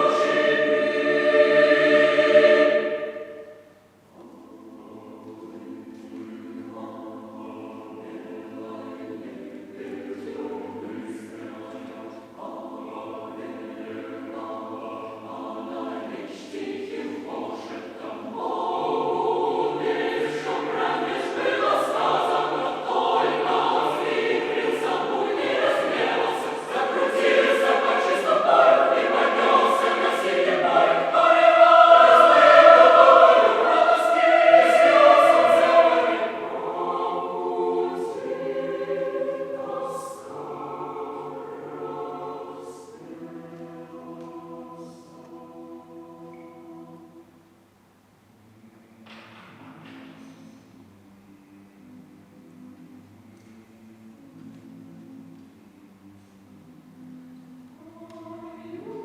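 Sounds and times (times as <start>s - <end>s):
choir singing: 0.0s - 47.8s, 48.4s - 59.0s.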